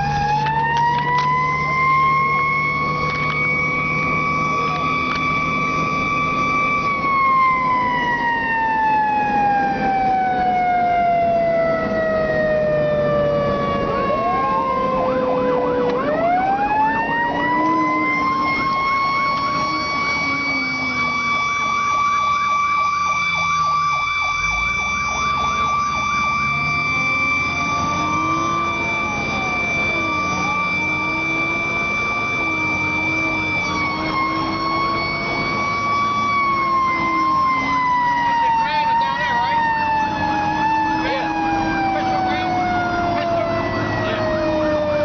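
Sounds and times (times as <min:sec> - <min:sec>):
mechanical siren wailing: 0:00.0 - 0:45.0
warbling electronic siren: 0:00.0 - 0:45.0.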